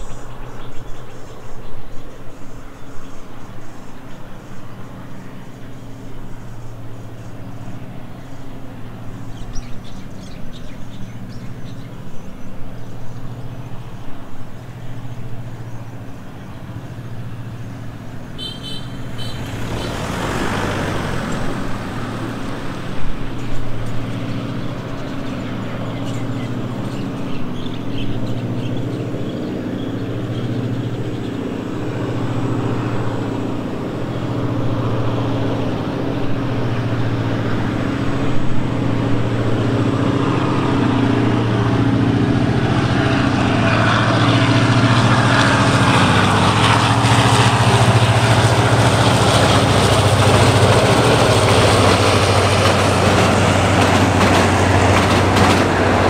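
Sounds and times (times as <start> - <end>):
engine running with low hum: 0.0 - 56.0
traffic noise: 0.0 - 56.0.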